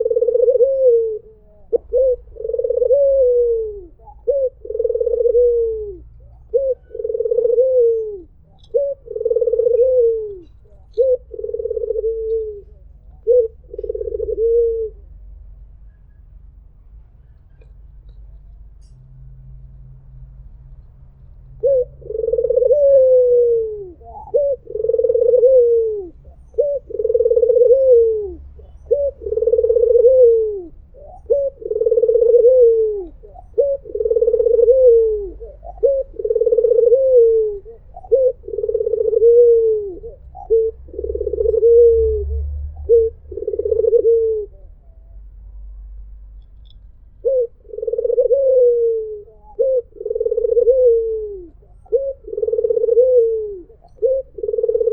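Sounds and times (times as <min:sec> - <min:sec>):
dove cooing: 0:00.0 - 0:15.6, 0:21.4 - 0:54.9.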